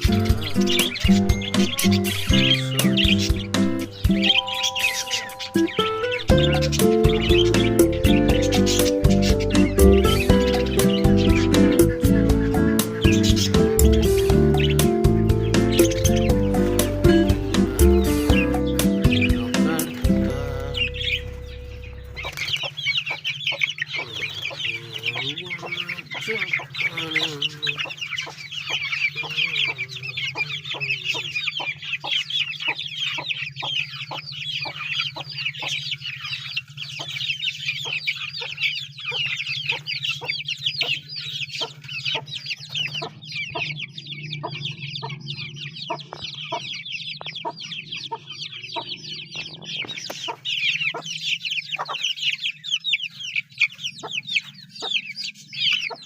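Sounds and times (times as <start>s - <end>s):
chickens clucking: 0.0s - 56.0s
high-pitched chirping: 0.0s - 56.0s.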